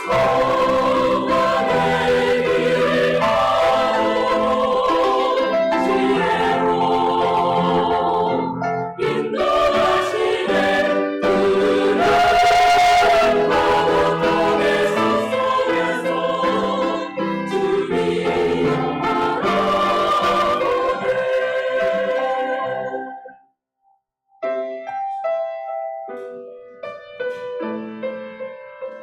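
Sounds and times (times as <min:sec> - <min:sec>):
church choir singing: 0:00.0 - 0:23.3
instrumental accompaniment: 0:00.0 - 0:23.3.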